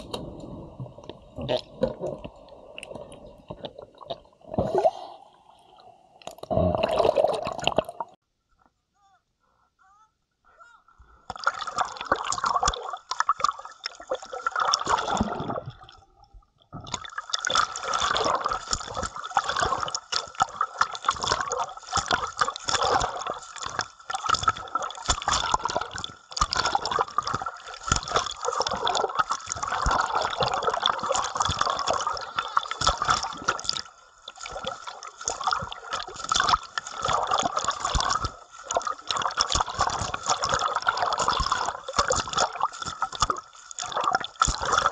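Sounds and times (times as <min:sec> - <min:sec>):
water splashing and sloshing: 0:00.0 - 0:08.2, 0:11.2 - 0:44.9.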